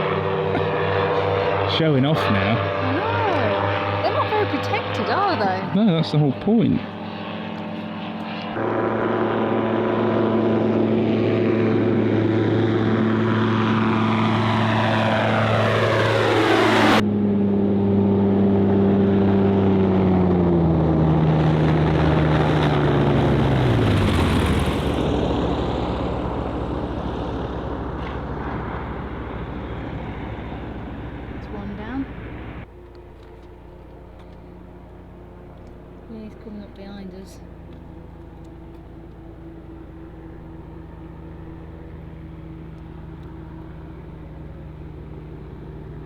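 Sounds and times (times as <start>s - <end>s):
microlight aircraft droning past: 0.0s - 46.0s.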